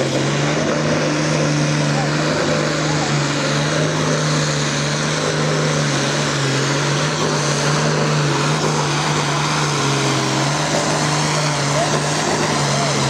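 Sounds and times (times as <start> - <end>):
tractor diesel engine at full load: 0.0 - 13.0.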